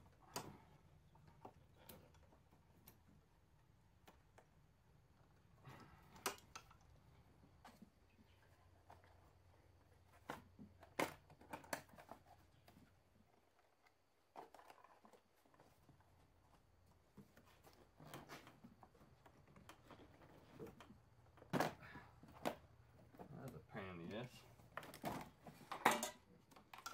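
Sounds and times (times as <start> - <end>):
plastic parts clicking and rustling: 5.2 - 26.9.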